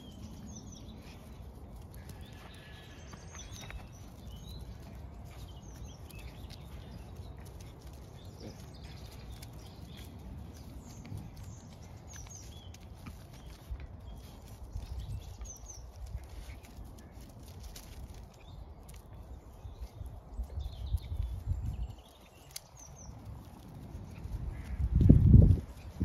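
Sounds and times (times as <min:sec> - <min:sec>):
animal paws pattering on grass: 0:00.0 - 0:26.0
small birds chirping: 0:00.0 - 0:26.0.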